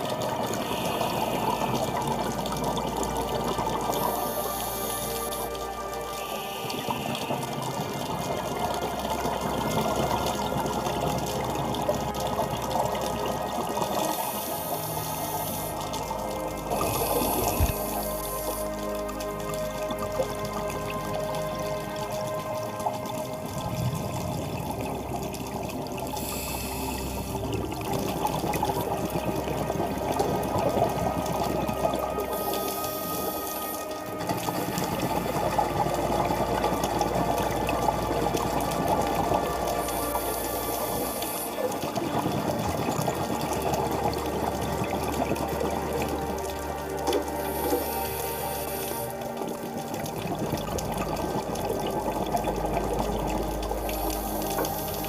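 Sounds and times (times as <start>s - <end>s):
water bubbling underwater: 0.0s - 55.0s.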